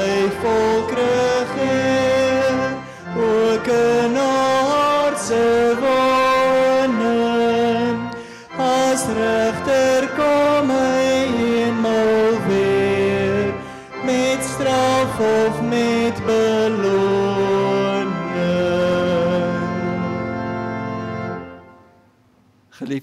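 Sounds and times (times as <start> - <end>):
congregation singing a hymn: 0.0 - 21.1.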